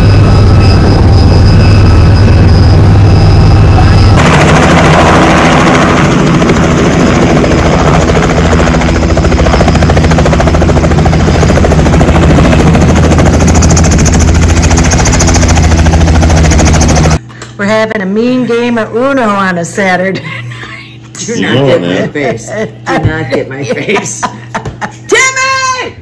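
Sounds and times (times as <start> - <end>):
helicopter engine drone: 0.0 - 17.3, 20.2 - 25.1
helicopter rotor beat: 0.0 - 17.3, 21.2 - 25.6.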